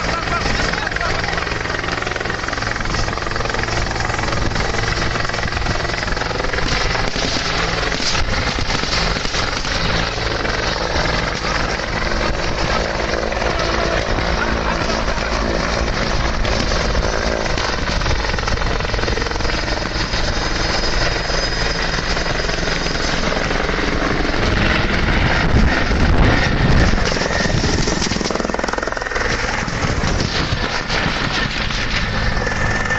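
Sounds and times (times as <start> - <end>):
helicopter rotor thudding: 0.0 - 32.9
helicopter turbine noise: 0.0 - 32.9.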